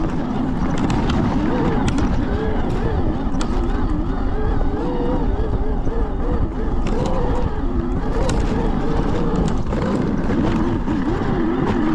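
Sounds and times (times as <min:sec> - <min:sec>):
electric motor whining: 0:00.0 - 0:11.9
sharp clicks: 0:00.0 - 0:11.9
steady low rumble: 0:00.0 - 0:11.9.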